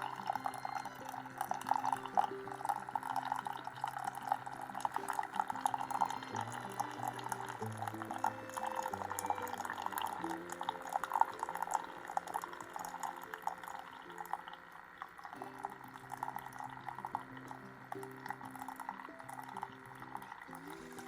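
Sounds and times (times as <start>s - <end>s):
coffee trickling into cup: 0.0s - 21.0s.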